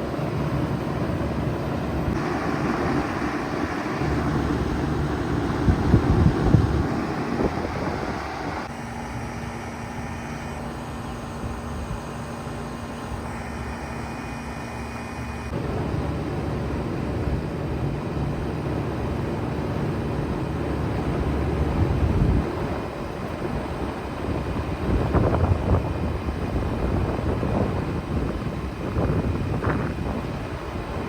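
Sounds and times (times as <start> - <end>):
faint steady hum: 0.0 - 31.0
heat pump running: 0.0 - 31.0.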